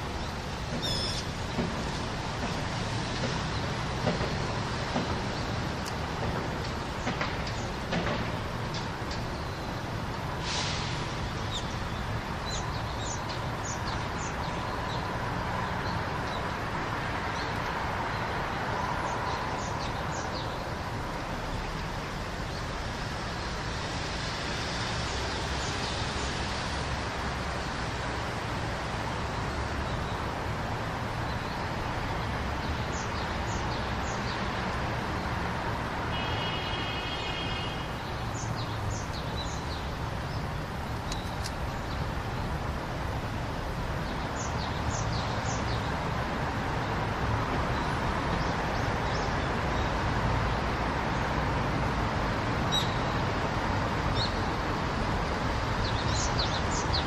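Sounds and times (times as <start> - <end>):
city traffic noise: 0.0 - 57.0.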